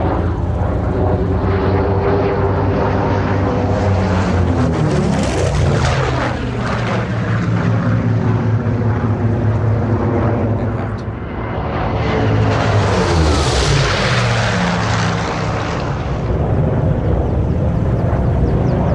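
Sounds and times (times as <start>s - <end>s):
aircraft radial engines passing by: 0.0s - 18.9s.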